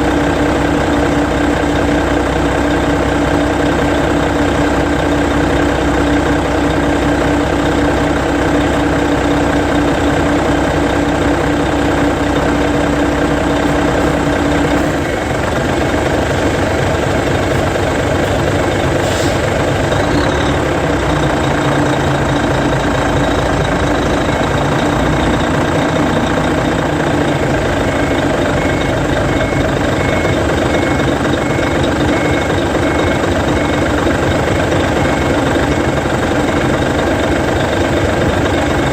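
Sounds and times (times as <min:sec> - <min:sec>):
coach diesel engine idling: 0:00.0 - 0:38.9.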